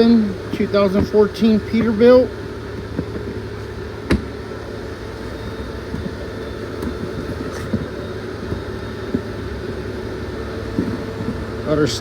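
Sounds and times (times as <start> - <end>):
truck engine humming in cab: 0.0 - 12.0.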